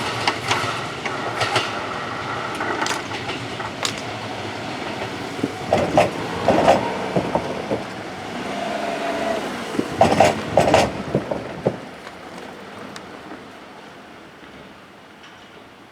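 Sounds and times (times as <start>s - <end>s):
train rumble: 0.0s - 15.9s
train wheels clacking over joints: 0.0s - 15.9s
train whine: 0.0s - 15.9s.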